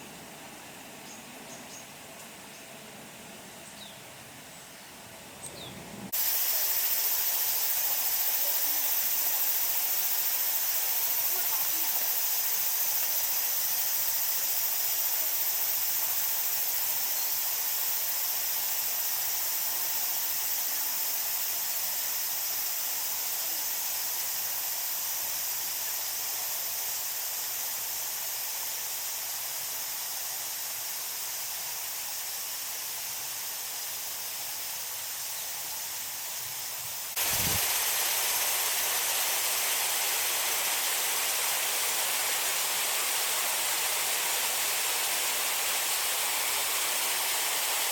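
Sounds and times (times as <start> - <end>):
garden waterfall rushing: 5.9 - 47.9.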